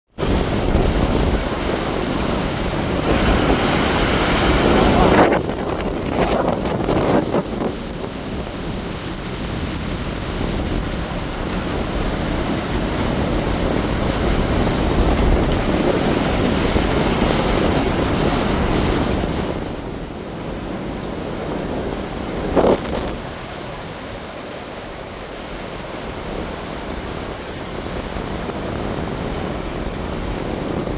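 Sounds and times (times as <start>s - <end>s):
ocean waves breaking: 0.1s - 30.9s
wind rumbling on microphone: 0.1s - 30.9s.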